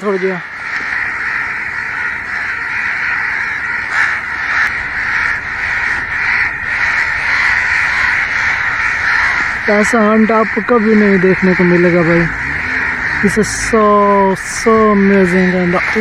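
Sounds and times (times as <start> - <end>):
crows cawing harshly: 0.0 - 16.0.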